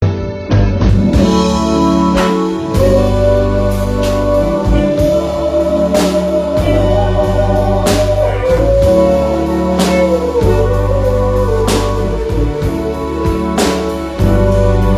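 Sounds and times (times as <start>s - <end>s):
bass line: 0.0s - 14.9s
organ chords: 0.0s - 14.9s.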